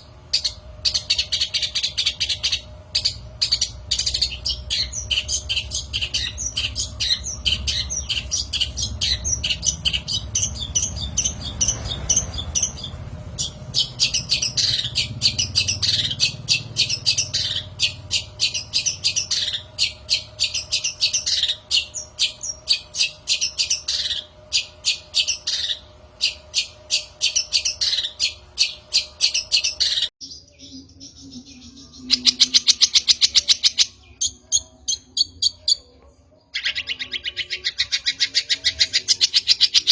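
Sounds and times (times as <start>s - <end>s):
bird fast trill: 0.0s - 35.8s.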